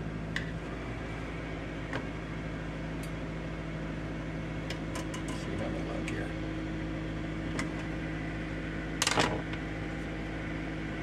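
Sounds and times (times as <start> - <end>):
air fryer fan humming: 0.0 - 11.0.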